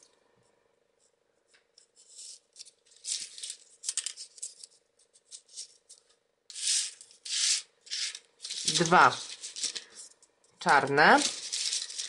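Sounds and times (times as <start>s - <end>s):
paper rustling and scraping: 1.9s - 12.0s.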